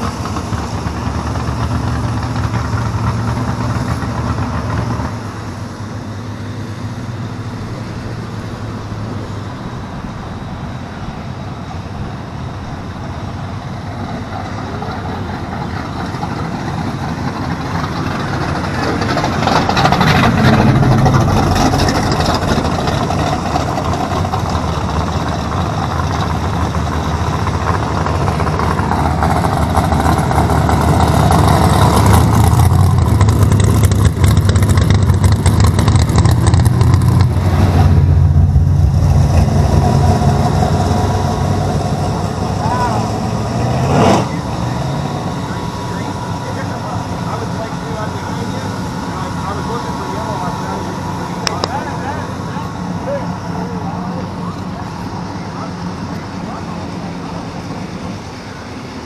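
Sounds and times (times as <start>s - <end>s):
hot rod engines idling: 0.0s - 59.0s.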